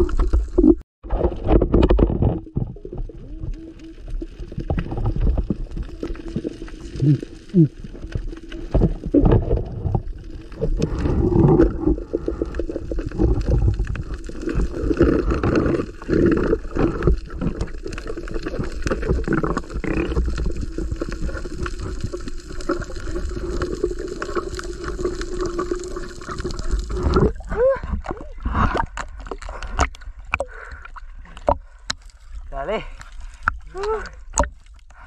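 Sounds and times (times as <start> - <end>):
water gurgling and churning: 0.0 - 32.4.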